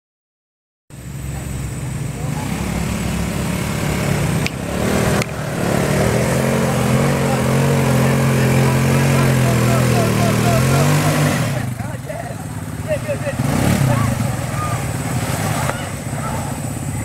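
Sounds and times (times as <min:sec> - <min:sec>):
quad bike engine climbing: 0:01.0 - 0:17.0.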